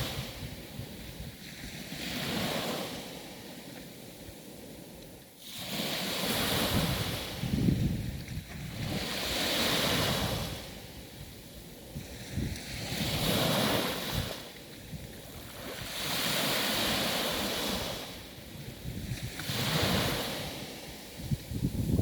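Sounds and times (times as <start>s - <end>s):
sea waves surging: 0.0s - 22.0s.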